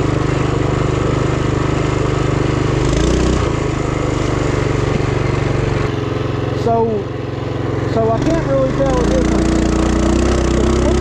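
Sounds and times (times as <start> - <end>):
mini bike engine running: 0.0 - 11.0.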